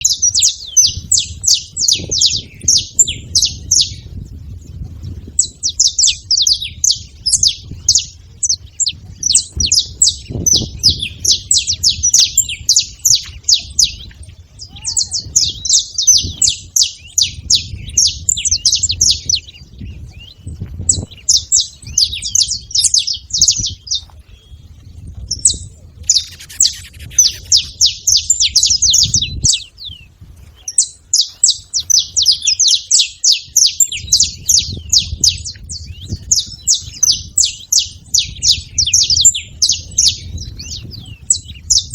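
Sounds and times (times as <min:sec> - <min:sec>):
canaries singing trilled notes: 0:00.0 - 0:41.9.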